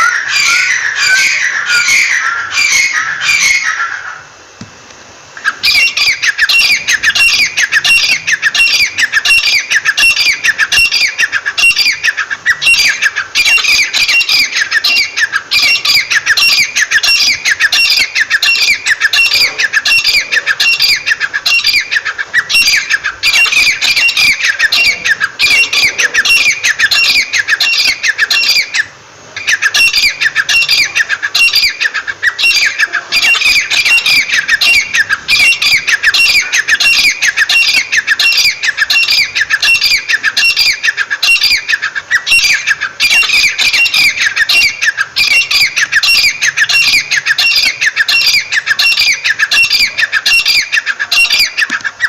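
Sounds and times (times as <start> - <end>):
bird calling: 0.0 - 52.0.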